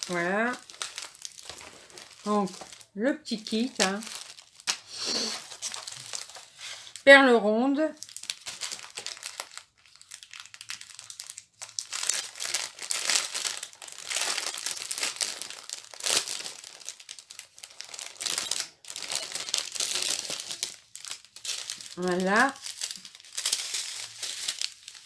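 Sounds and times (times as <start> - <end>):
plastic packaging crinkling: 0.0 - 7.0, 7.9 - 25.0.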